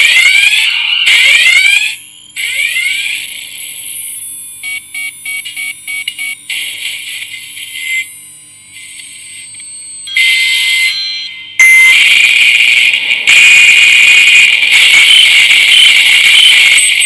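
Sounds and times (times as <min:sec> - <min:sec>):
electronic alarm beeps: 0:00.0 - 0:17.0
high-pitched alarm tones: 0:00.0 - 0:17.0.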